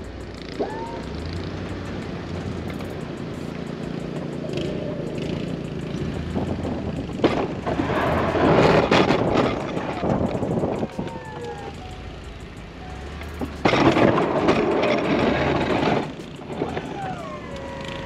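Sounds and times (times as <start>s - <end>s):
truck engine running: 0.0s - 18.0s
plow scraping slushy snow: 0.4s - 10.8s, 13.0s - 18.0s.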